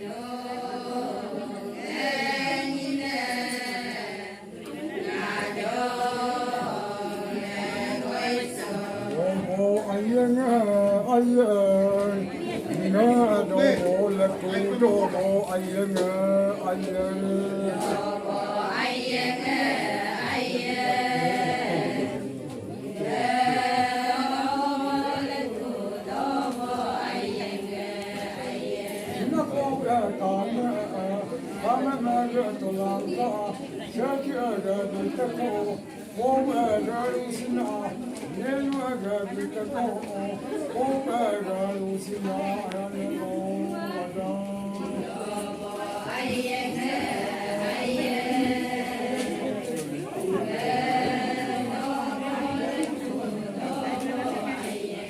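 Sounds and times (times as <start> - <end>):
group of voices singing: 0.0 - 55.0.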